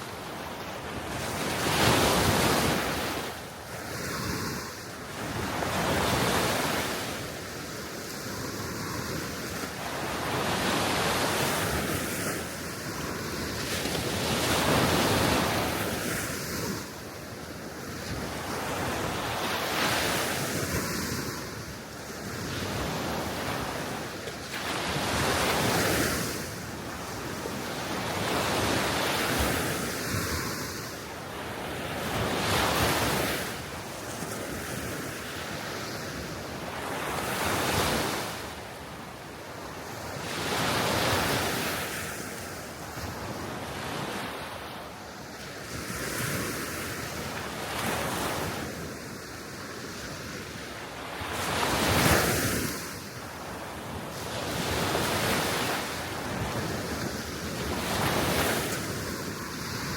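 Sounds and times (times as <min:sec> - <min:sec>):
small waves washing ashore: 0:00.0 - 0:59.9.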